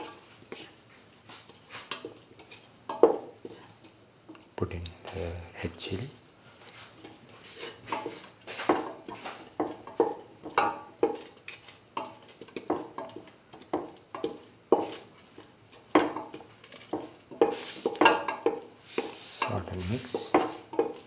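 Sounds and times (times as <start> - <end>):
metal spoon scraping a steel pan: 1.3 - 4.0, 6.8 - 21.0.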